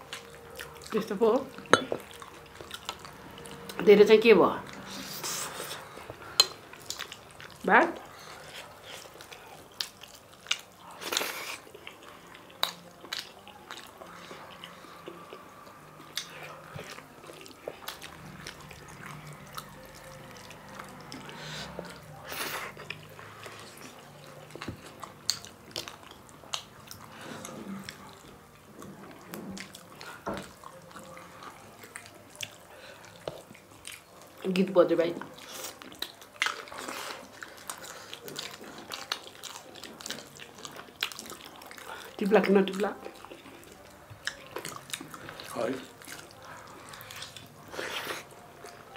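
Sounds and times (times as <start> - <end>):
chewing and biting food: 0.0 - 48.9.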